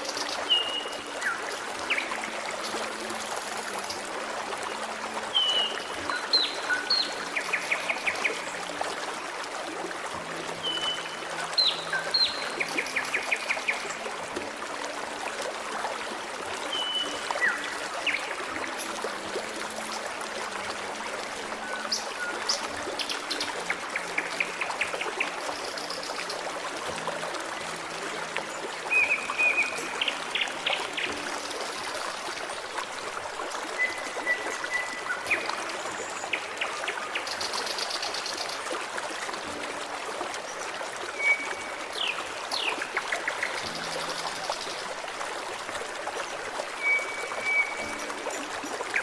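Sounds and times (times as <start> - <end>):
stream trickling: 0.0 - 49.0.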